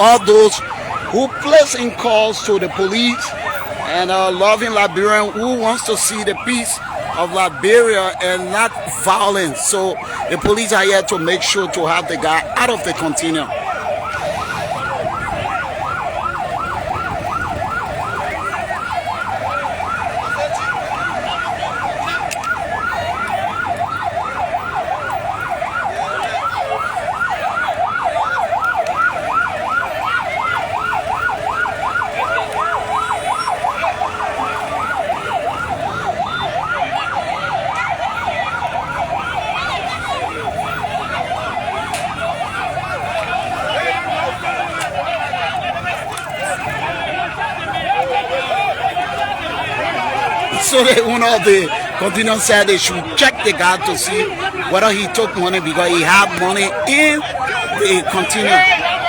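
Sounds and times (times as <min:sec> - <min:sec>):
police siren yelping: 0:00.0 - 0:59.0.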